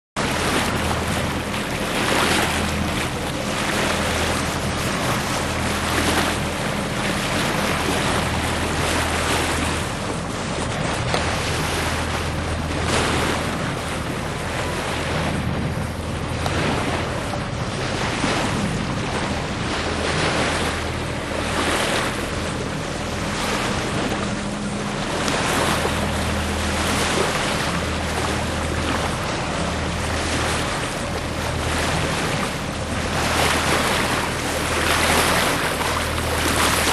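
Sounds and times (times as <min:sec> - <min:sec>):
water rushing past hull: 0:00.2 - 0:36.9
wind buffeting microphone: 0:00.2 - 0:36.9.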